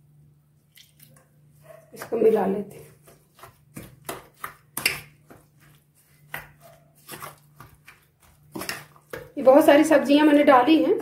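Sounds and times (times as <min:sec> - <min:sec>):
batter squelching: 0:00.5 - 0:11.0.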